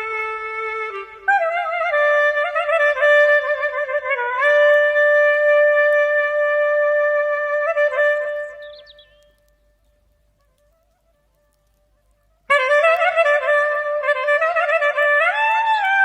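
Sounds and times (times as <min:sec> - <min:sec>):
solo clarinet melody: 0:00.0 - 0:16.0.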